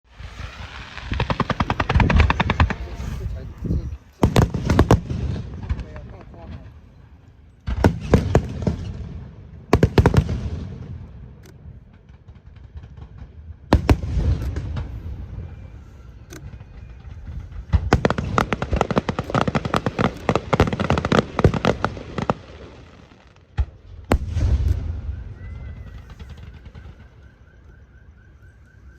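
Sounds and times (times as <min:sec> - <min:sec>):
fireworks bangs with crackle: 0:00.1 - 0:28.0
rapid fireworks popping: 0:00.1 - 0:28.2.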